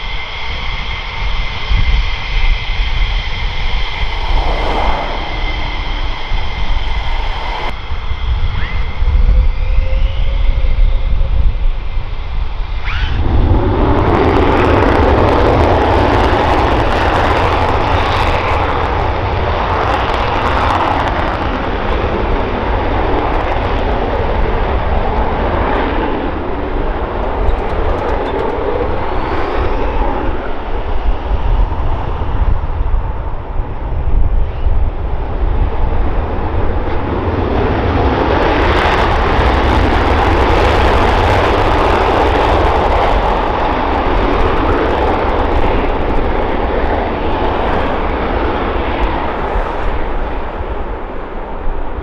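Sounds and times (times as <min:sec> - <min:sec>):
jet engines running: 0:00.0 - 0:52.0.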